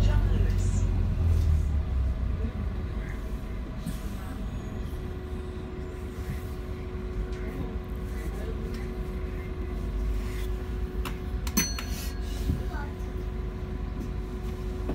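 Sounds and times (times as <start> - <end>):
bus engine rumble: 0.0 - 14.9
constant hum: 0.0 - 14.9.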